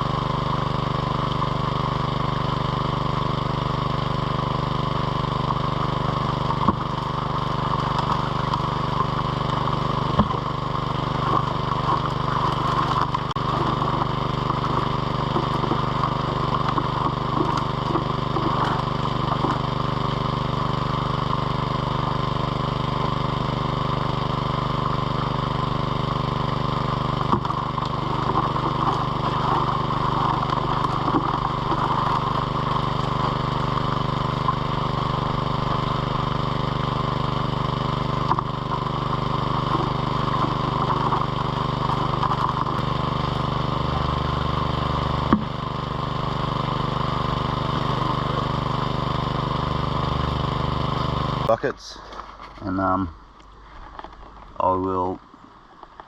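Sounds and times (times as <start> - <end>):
water rushing through sluice: 0.0 - 51.5
petrol water pump running: 0.0 - 55.1.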